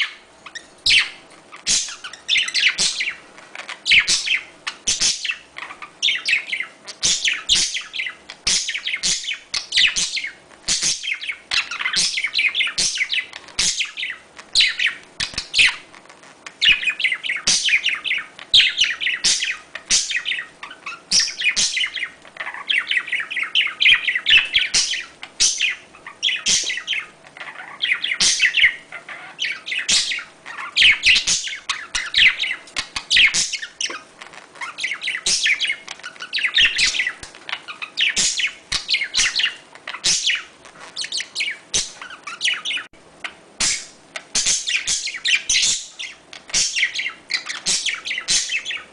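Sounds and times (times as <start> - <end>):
budgerigars chattering: 0.0 - 15.9, 16.6 - 48.9.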